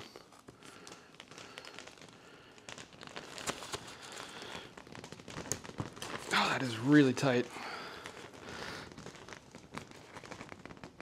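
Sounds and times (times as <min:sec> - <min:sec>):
plastic connector crinkling: 0:00.0 - 0:11.0.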